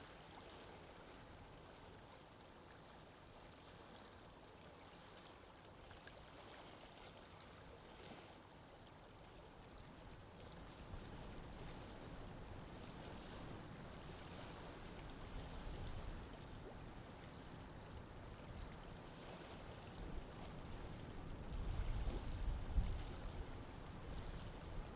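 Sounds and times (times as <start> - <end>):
water lapping and flowing: 0.0 - 24.9.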